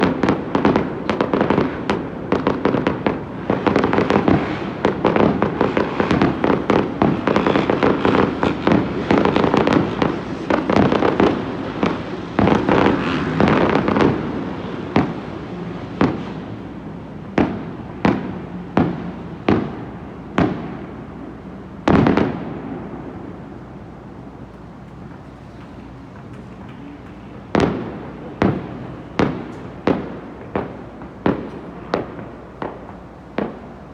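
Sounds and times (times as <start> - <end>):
fireworks bangs and crackling: 0.0 - 33.9
fireworks booms rumbling: 0.0 - 33.9.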